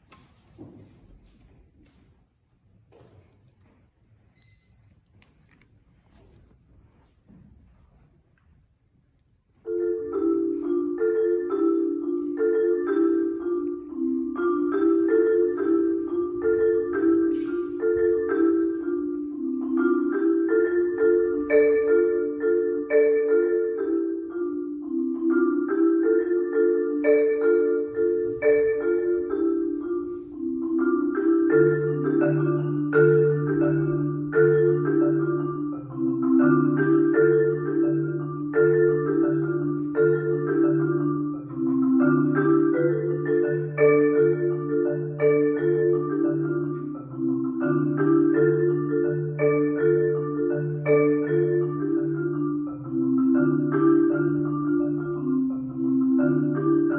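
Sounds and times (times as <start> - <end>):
marimba pattern played with mallets: 8.6 - 56.9.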